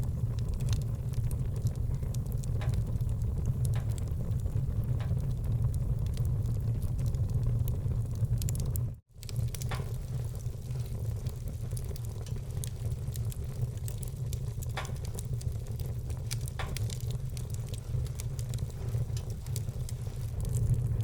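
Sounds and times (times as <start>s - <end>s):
loud fire pops: 0.0s - 21.0s
steady low rumble: 0.0s - 21.0s
wood fire crackling: 0.0s - 21.0s.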